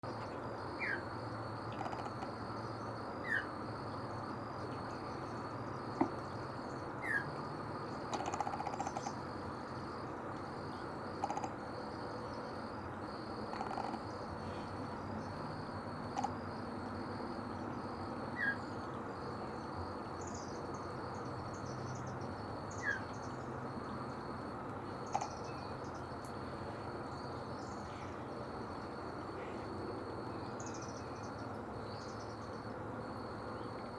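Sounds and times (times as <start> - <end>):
pulsing insect trill: 0.1 - 33.9.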